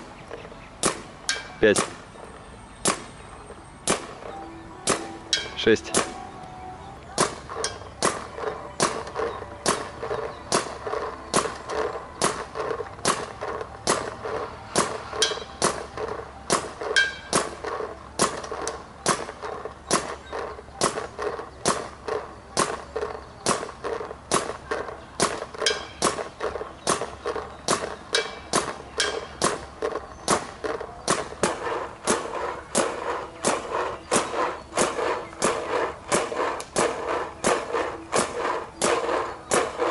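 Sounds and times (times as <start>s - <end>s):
paintball marker firing: 0.0s - 2.1s, 2.8s - 3.2s, 3.8s - 6.2s, 7.2s - 39.9s.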